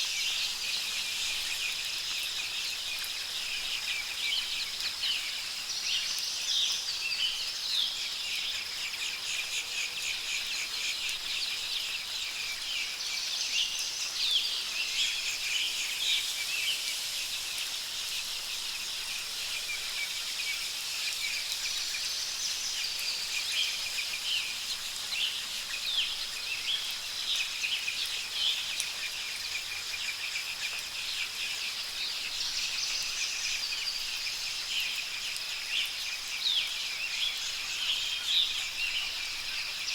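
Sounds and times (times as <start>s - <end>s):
soft rain hiss: 0.0s - 39.9s.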